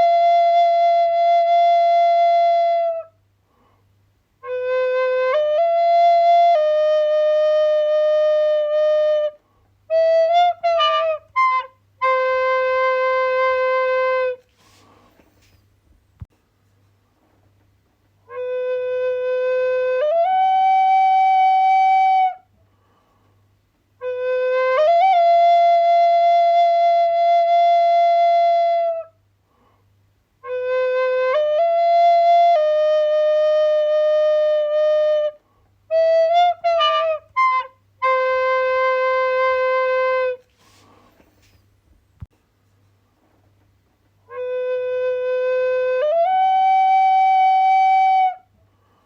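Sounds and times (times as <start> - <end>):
flute-like wind instrument: 0.0 - 3.2, 4.4 - 15.6, 18.2 - 22.5, 24.0 - 29.2, 30.4 - 41.6, 44.2 - 48.6.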